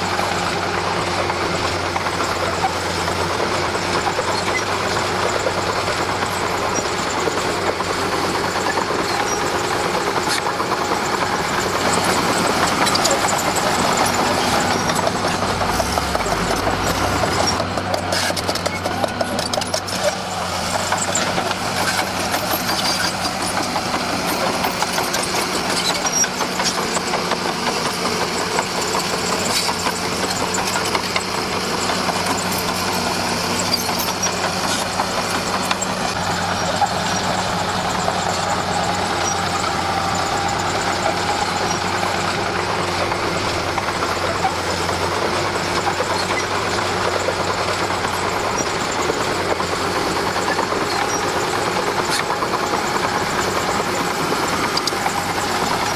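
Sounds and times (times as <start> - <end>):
bulldozer engine running: 0.0 - 55.9.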